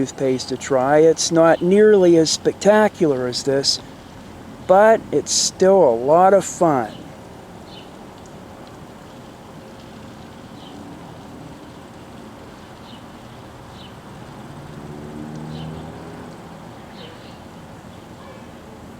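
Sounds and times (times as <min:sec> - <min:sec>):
low engine hum: 0:00.0 - 0:18.9.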